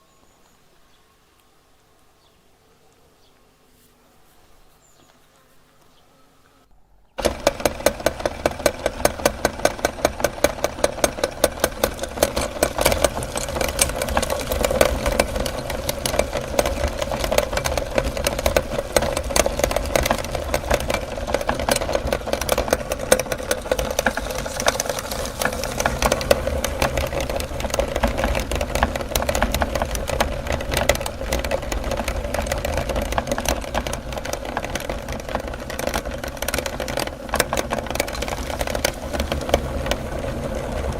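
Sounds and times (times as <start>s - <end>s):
electric meat grinder running: 7.2s - 40.9s
regular knocks: 7.2s - 40.9s.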